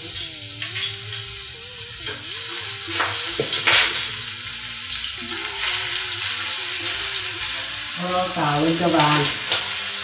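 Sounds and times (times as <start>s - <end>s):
leeks sizzling in oil: 0.0s - 10.0s.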